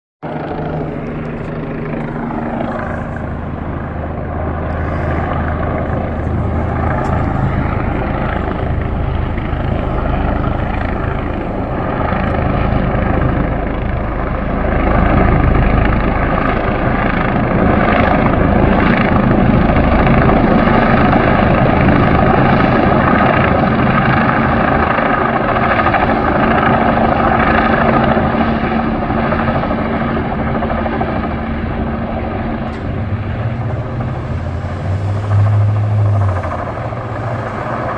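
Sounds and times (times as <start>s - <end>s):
helicopter hovering: 0.2s - 37.9s.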